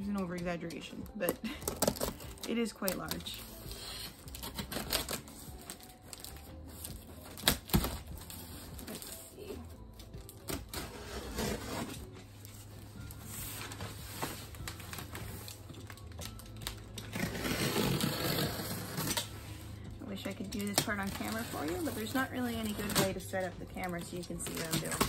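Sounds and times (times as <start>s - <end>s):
packing material rustling: 0.0s - 25.0s.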